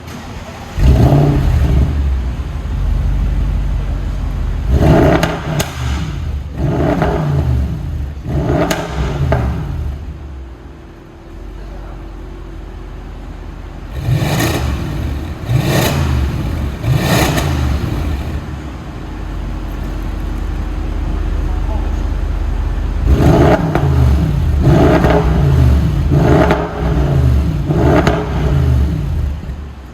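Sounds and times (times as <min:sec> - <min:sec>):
car engine revving from idle: 0:00.0 - 0:29.9.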